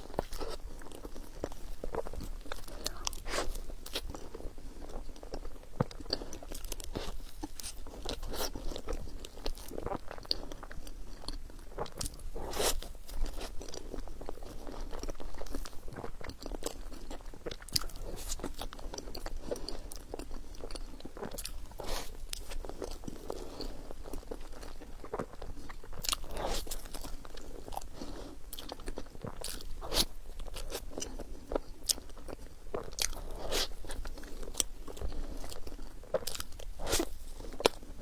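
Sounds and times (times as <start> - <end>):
person chewing bread: 0.0 - 38.0.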